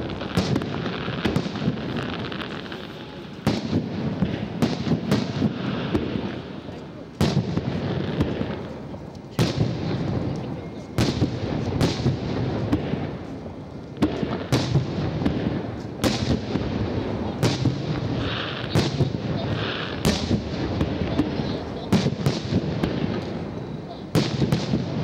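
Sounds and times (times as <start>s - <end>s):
fireworks bursting with echo: 0.0s - 25.0s.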